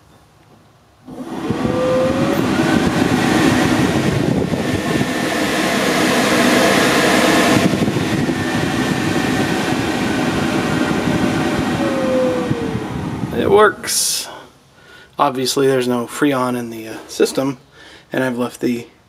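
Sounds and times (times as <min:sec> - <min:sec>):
blower fan rushing air: 0:00.9 - 0:18.6.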